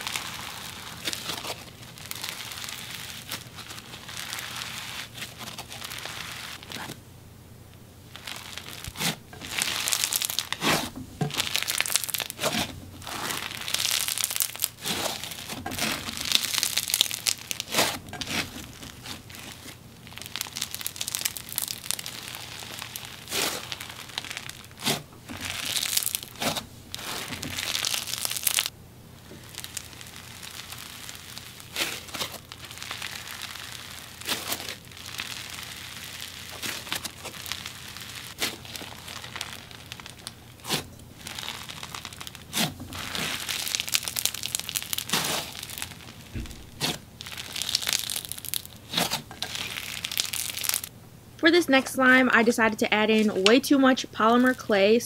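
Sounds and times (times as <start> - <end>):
crackling slime squished by hand: 0.0 - 7.0, 8.0 - 51.5.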